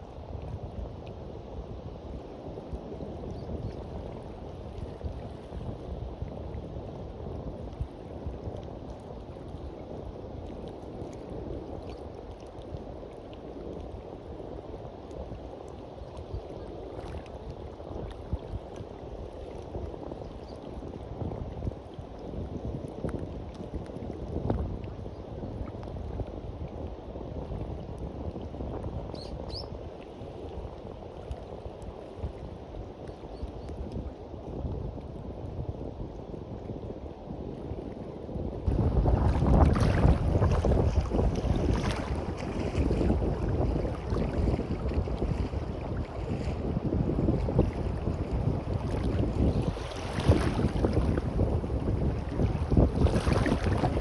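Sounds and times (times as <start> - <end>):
sea waves washing on beach: 0.0 - 54.0.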